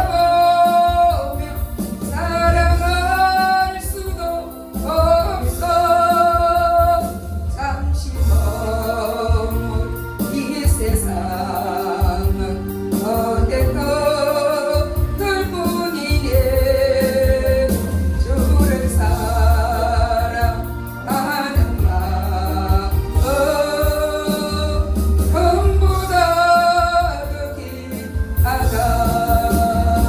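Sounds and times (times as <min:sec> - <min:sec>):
music with strong bass: 0:00.0 - 0:30.0
person singing worship song: 0:00.0 - 0:30.0.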